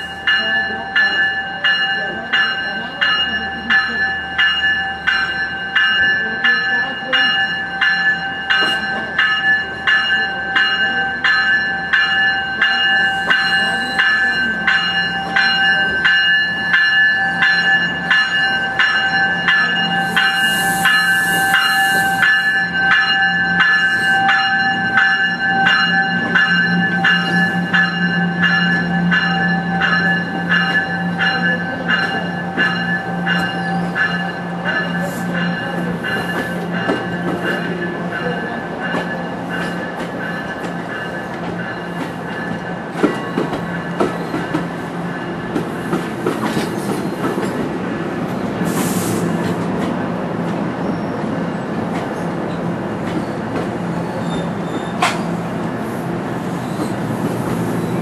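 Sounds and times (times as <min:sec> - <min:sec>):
bell ringing: 0:00.0 - 0:47.6
train rolling past: 0:00.0 - 0:58.0.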